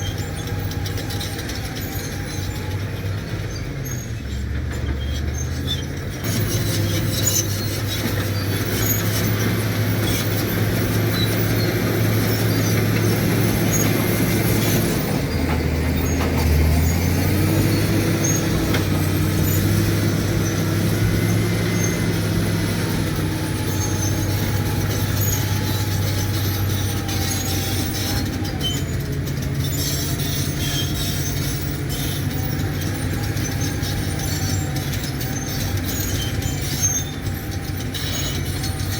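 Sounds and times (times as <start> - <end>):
bulldozer diesel engine droning: 0.0 - 38.9
high whines from running gear: 6.3 - 38.9.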